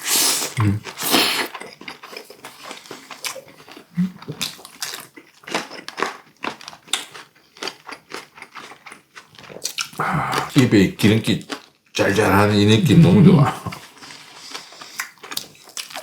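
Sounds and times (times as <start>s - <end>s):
chewing meat: 0.2s - 12.1s, 12.8s - 16.0s.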